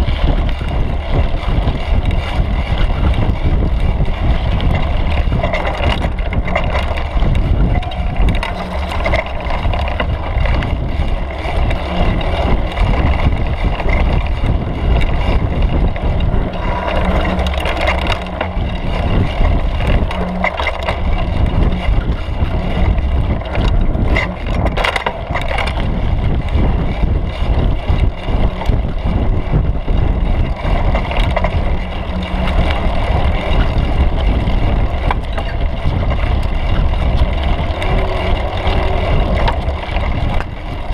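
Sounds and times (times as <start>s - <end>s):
bike clicks and rattles over bumps: 0.0s - 40.9s
bike tyres and frame rumbling: 0.0s - 40.9s.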